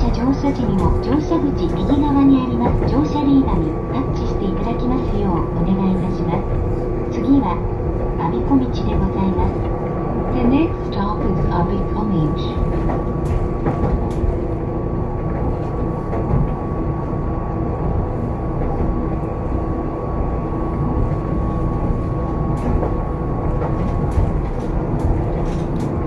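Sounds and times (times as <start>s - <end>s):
streetcar low rumble: 0.0s - 26.0s.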